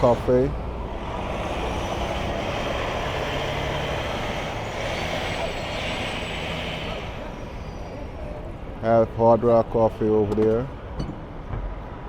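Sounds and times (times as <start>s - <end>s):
street noise rushing: 0.0s - 12.0s
vehicle engines running: 0.0s - 12.0s.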